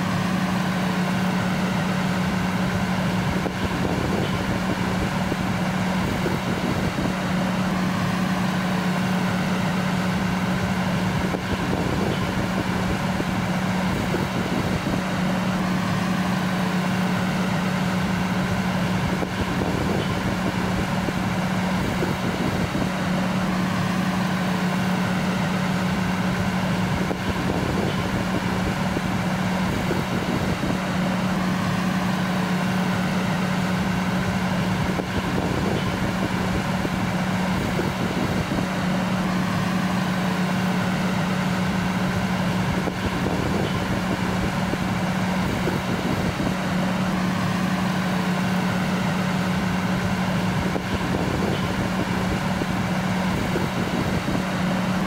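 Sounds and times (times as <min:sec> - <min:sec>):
fire engine idling: 0:00.0 - 0:55.0.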